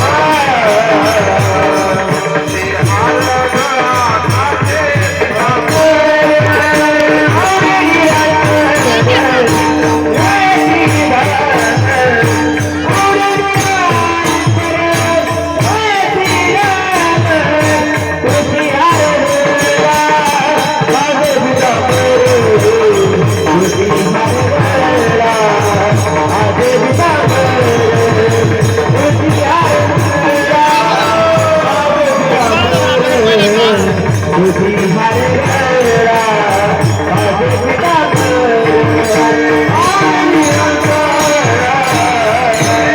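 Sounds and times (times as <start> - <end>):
devotional singing: 0.0 - 42.9
fast steady percussion: 0.0 - 42.9
jingling hand cymbals: 0.0 - 42.9.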